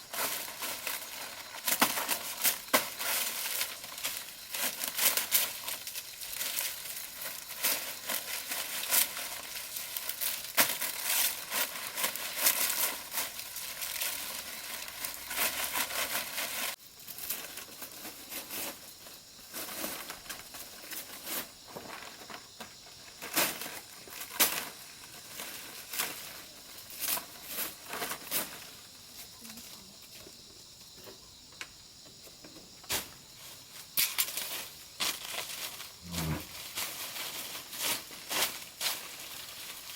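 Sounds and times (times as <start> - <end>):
dry plant material crinkling: 0.0 - 30.0, 33.4 - 39.9.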